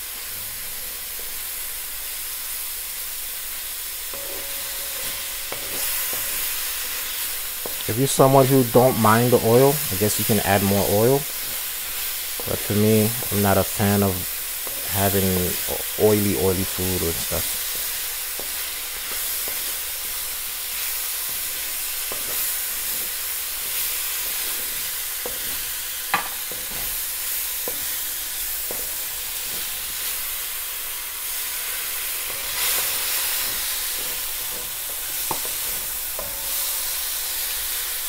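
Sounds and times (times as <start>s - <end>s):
mushrooms sizzling in a pan: 0.0s - 38.0s.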